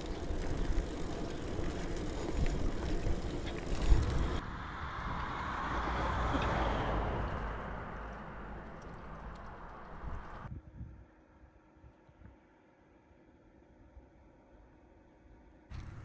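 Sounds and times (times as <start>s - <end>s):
bicycle tyre noise on road: 0.0s - 16.0s.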